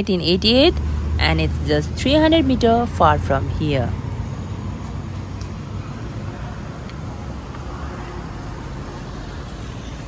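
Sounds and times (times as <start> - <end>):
distant road traffic rumble: 0.0 - 10.0.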